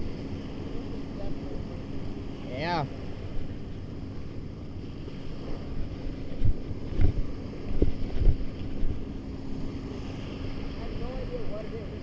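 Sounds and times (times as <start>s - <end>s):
small waves washing on sand: 0.0s - 12.0s
wind buffeting microphone: 0.0s - 12.0s.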